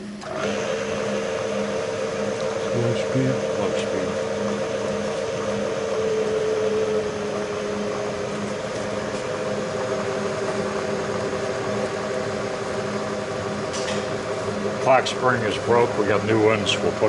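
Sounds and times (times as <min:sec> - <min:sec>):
milling machine spindle whine: 0:00.0 - 0:17.0
low repeating throb: 0:00.6 - 0:17.0.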